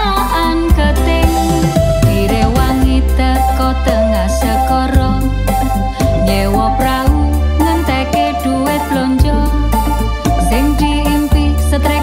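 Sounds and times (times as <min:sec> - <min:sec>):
song with heavy bass: 0:00.0 - 0:12.0.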